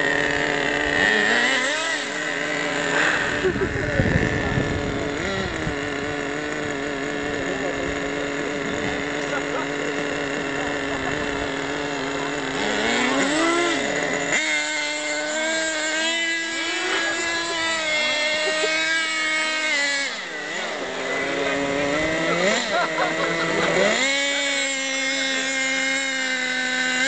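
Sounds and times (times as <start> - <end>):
small toy car motors buzzing: 0.0 - 27.0.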